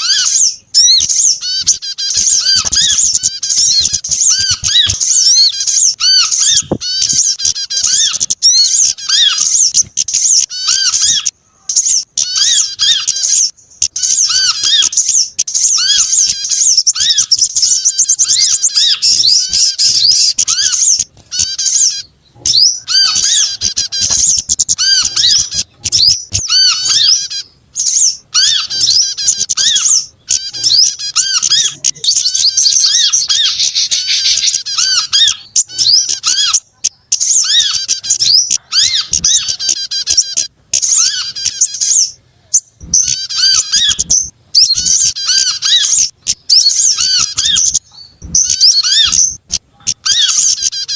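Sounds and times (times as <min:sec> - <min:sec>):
small birds chirping and trilling: 0:00.0 - 0:50.9.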